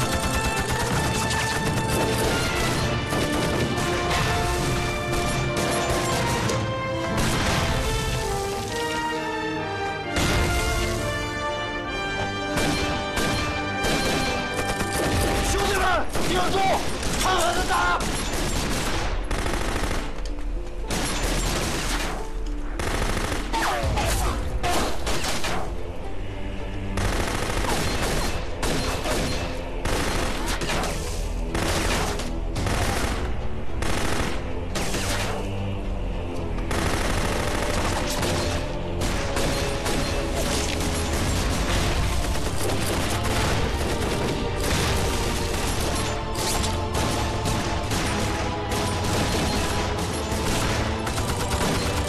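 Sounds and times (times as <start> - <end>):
rapid gunfire: 0.0 - 8.0, 12.5 - 20.2, 20.9 - 22.2, 22.8 - 25.6, 27.0 - 35.5, 36.7 - 52.0
dramatic background music: 0.0 - 52.0.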